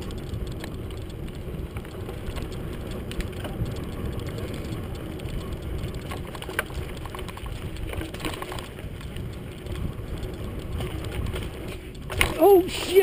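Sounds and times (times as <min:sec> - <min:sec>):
bike tyres rattling over bumps: 0:00.0 - 0:13.0
sharp clicks: 0:00.0 - 0:13.0
wind rumbling on microphone: 0:00.0 - 0:13.0.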